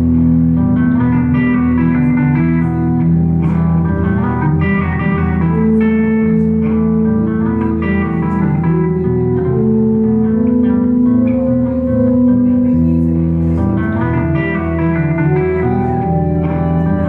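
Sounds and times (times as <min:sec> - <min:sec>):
bass line: 0:00.0 - 0:17.0
electric guitar notes and chords: 0:00.0 - 0:17.0.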